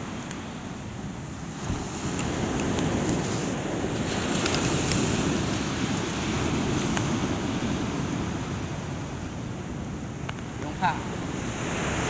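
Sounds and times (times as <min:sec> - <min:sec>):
campfire crackling: 0:00.0 - 0:12.0
surf washing on shore: 0:00.0 - 0:12.0
wind: 0:00.0 - 0:12.0.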